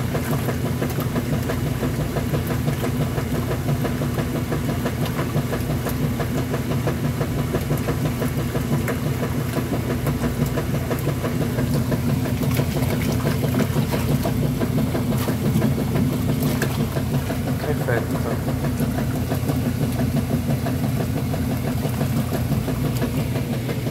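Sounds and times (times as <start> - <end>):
washing machine running: 0.0 - 23.9.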